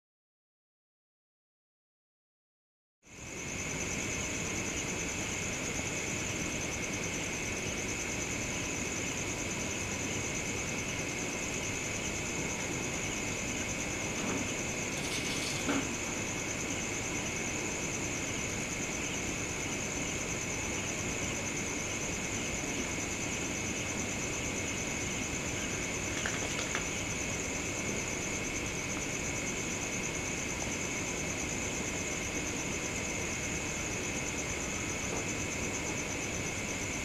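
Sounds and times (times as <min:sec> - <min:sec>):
crickets chirring: 0:03.1 - 0:37.0.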